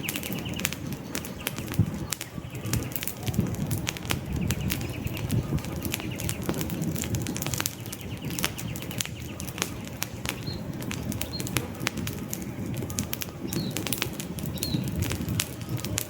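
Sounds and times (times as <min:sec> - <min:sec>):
campfire crackling and popping: 0:00.0 - 0:16.0
high bird chirps: 0:00.0 - 0:16.0.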